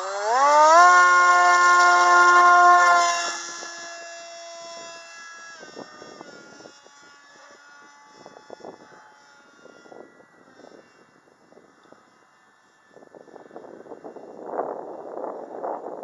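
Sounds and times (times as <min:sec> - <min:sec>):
model plane motor whine: 0:00.0 - 0:16.0
wind noise on microphone: 0:00.0 - 0:16.0.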